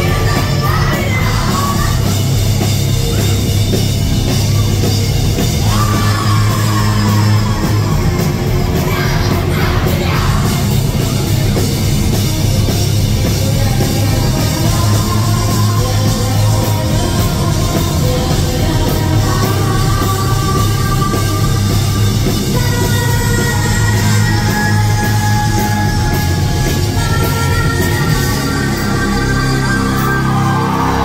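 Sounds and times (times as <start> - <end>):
woman singing: 0.0 - 2.2, 5.6 - 10.8, 13.3 - 31.0
bass guitar: 0.0 - 31.0
distorted electric guitar: 0.0 - 31.0
drums: 0.0 - 31.0.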